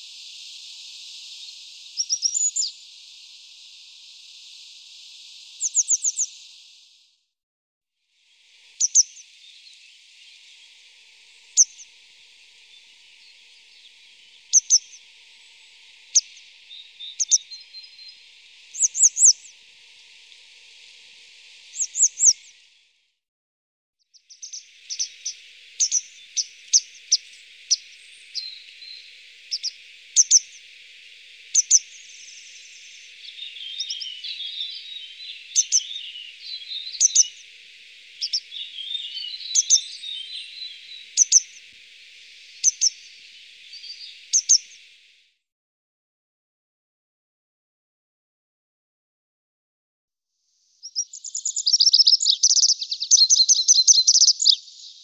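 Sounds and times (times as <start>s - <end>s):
birds chirping: 0.0s - 6.9s, 8.6s - 22.8s, 24.2s - 45.2s, 50.8s - 55.0s
steady high hiss: 0.0s - 7.2s, 8.2s - 23.1s, 24.3s - 45.4s, 50.6s - 55.0s.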